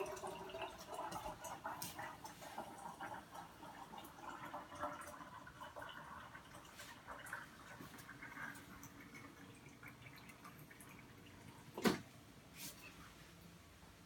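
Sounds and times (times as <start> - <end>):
water trickling and dripping: 0.0 - 11.8.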